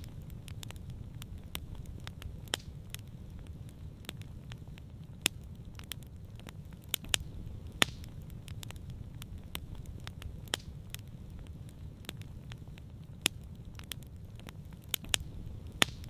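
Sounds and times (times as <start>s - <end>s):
campfire crackling: 0.0s - 16.0s
low steady rumble: 0.0s - 16.0s
sharp fire pops: 0.0s - 16.0s.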